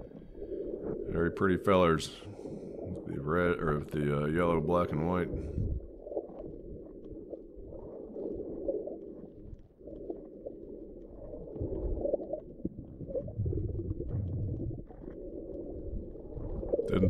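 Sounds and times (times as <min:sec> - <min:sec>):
muffled underwater water movement: 0:00.0 - 0:17.0.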